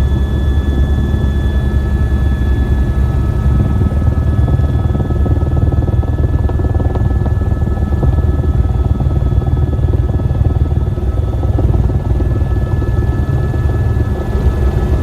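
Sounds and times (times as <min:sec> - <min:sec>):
helicopter rotor and engine noise: 0:00.0 - 0:15.0
thin steady whine: 0:00.0 - 0:15.0.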